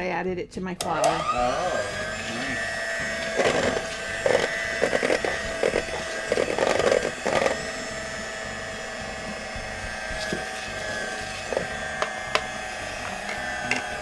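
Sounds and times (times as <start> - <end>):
electric mixer running: 0.7 - 14.0
beaters clattering against bowl: 0.8 - 14.0.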